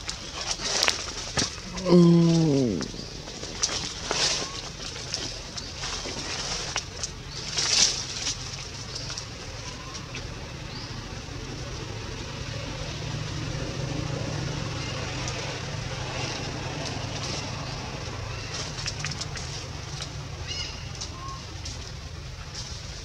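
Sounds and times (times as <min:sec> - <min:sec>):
twigs and leaves crackling: 0:00.0 - 0:11.5, 0:14.1 - 0:23.0
steady low rumble: 0:00.0 - 0:23.0.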